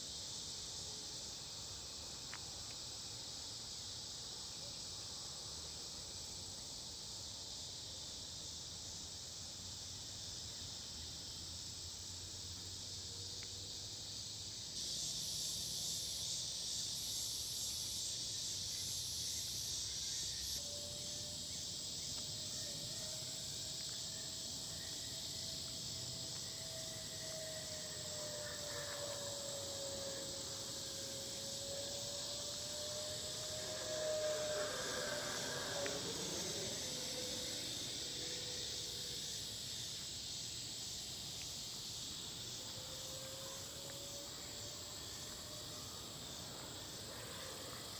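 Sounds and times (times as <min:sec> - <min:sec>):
crickets and insects trilling: 0:00.0 - 0:47.9.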